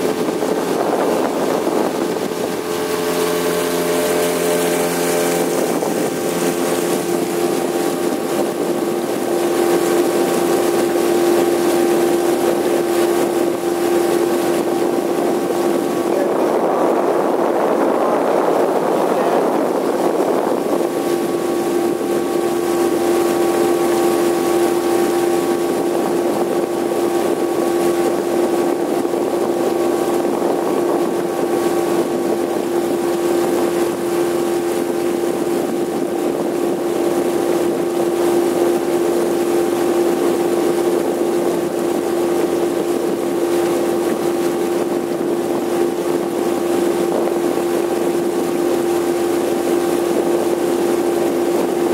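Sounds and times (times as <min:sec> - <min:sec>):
outboard motor running: 0:00.0 - 0:51.9.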